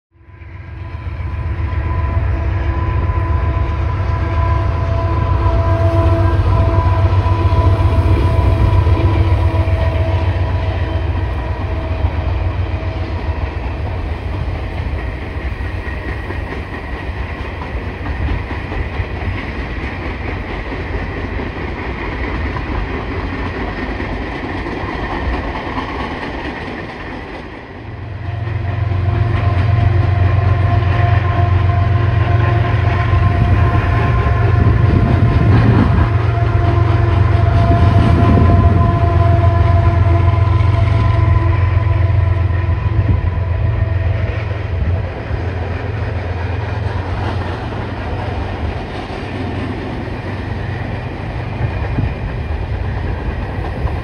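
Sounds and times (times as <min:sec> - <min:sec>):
train rumbling with wheel clatter: 0:00.2 - 0:54.0.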